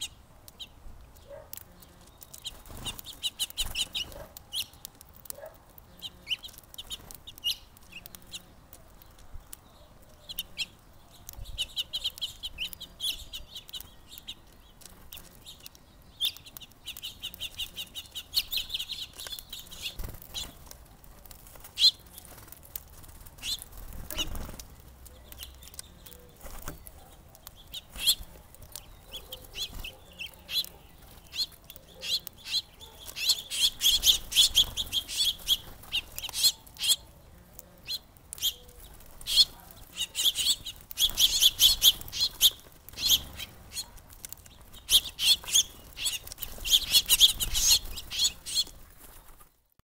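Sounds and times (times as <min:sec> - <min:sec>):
small songbirds chirping: 0:00.0 - 0:49.8.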